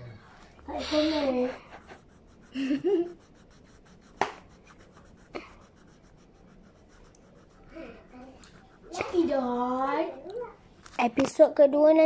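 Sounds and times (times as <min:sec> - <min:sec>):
faint marker rubbing: 0:00.2 - 0:11.0.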